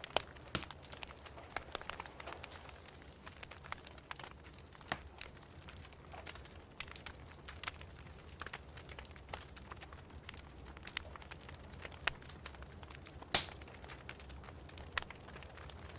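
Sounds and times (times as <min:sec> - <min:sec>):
wood fire crackling and popping: 0:00.0 - 0:15.9.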